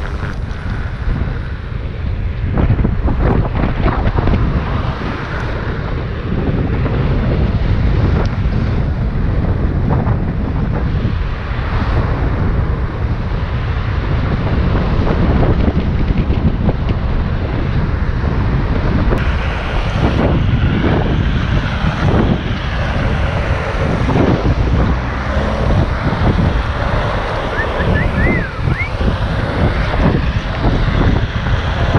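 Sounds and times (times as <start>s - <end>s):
low rumble: 0.0s - 31.9s
wind buffeting microphone: 0.0s - 31.9s.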